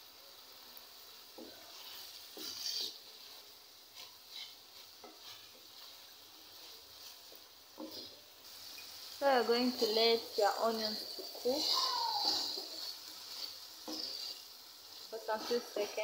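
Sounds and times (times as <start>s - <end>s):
liver and onions sizzling: 0.0s - 16.0s
spatula scraping pan: 1.1s - 16.0s.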